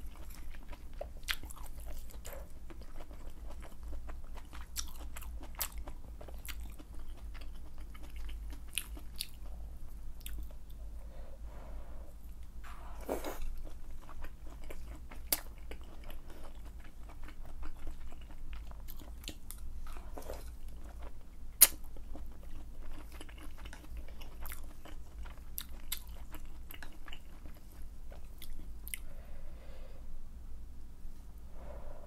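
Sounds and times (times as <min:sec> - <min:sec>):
wet chewing mouth sounds: 0:00.0 - 0:09.6, 0:13.0 - 0:29.1.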